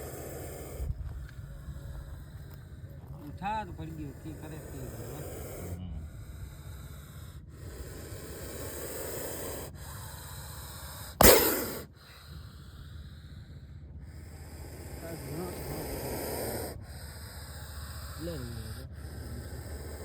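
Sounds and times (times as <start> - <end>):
snake hissing: 0.0 - 20.0.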